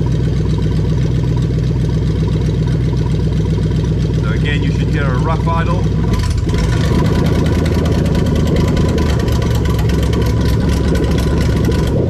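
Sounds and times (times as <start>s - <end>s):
engine idling rough: 0.0s - 12.0s.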